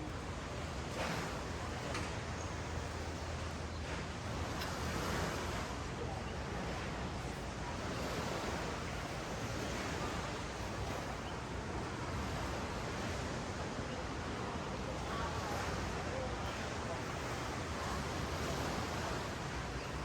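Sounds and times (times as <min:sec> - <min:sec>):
ocean surf on sand: 0:00.0 - 0:20.0.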